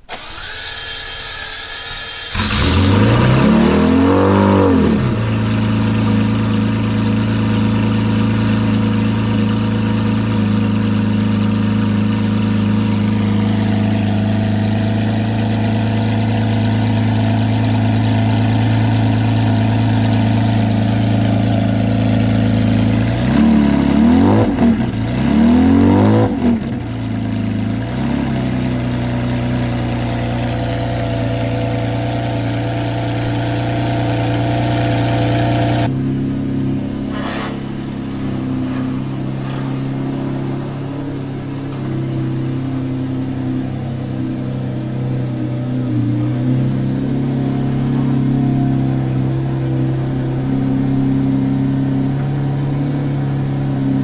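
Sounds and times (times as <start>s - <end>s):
car engine idling: 0.0s - 54.0s
engine revving: 0.0s - 54.0s.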